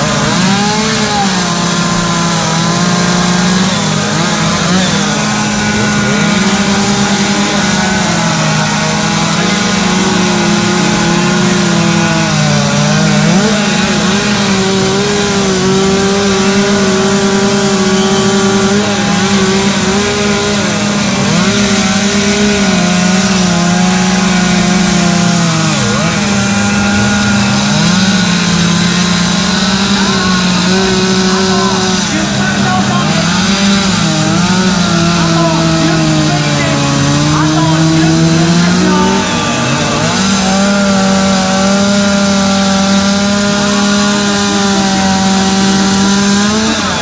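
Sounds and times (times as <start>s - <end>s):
chainsaws running: 0.0s - 47.0s.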